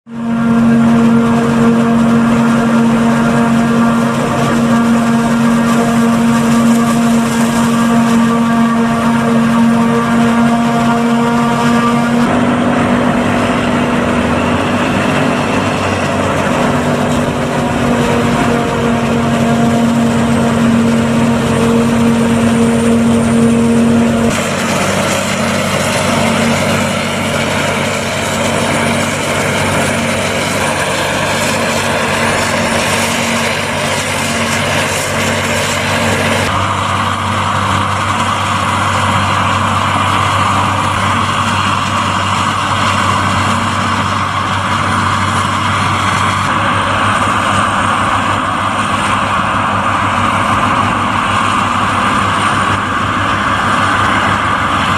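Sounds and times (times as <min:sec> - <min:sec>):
forage harvester machine drone: 0:00.0 - 0:54.9.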